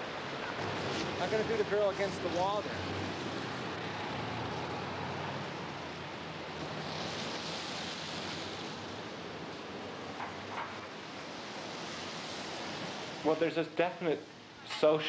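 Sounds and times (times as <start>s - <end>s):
wet city street hiss: 0.0s - 15.0s.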